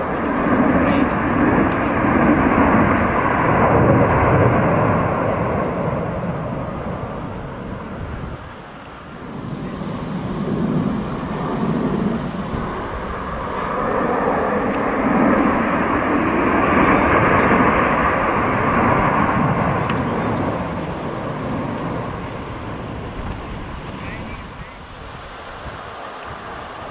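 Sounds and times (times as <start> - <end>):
aircraft engine rumble: 0.0 - 26.9.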